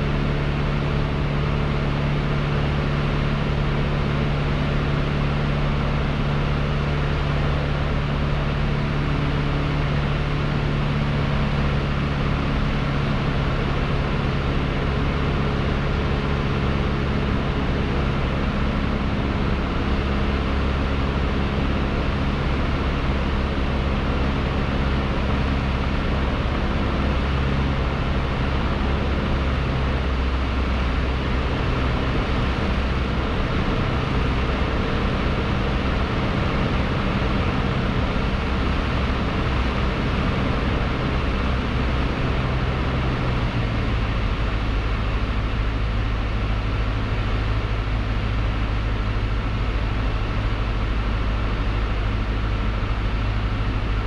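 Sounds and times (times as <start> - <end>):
aircraft engine drone in cockpit: 0.0 - 54.0.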